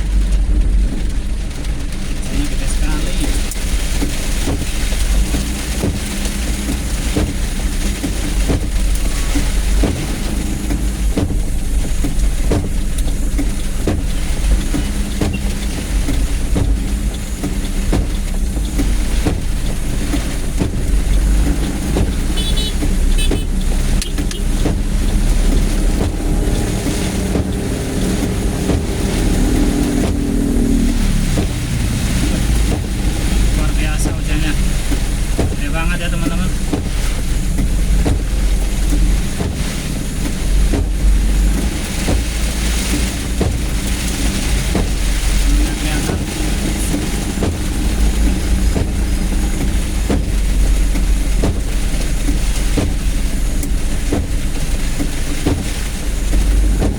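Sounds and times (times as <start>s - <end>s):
vehicle engine rumble: 0.0s - 56.9s.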